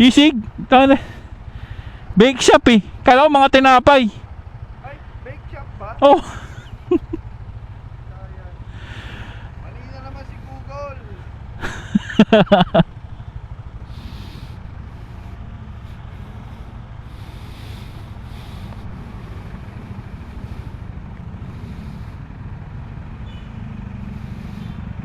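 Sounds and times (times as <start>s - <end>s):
motor scooter engine running: 0.0s - 25.0s.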